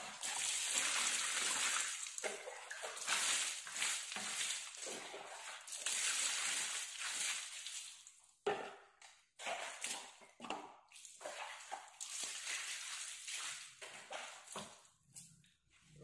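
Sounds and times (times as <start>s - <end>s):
water pouring and splashing: 0.0s - 8.8s, 9.4s - 14.9s.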